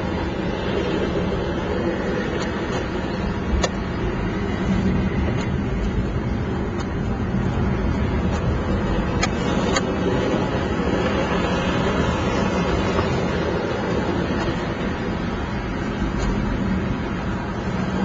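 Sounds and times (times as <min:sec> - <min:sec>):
toy car wheels rumbling on road: 0:00.0 - 0:18.0.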